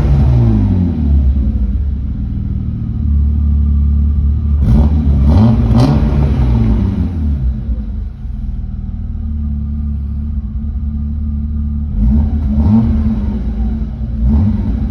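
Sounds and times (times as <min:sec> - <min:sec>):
car engine revving and idling: 0:00.0 - 0:14.9.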